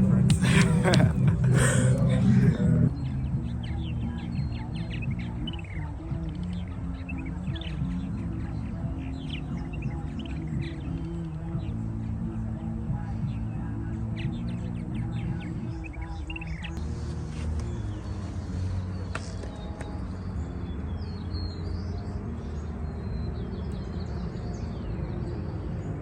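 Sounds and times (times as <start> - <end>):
birds chirping: 0.0 - 26.0
steady low drone: 0.0 - 26.0.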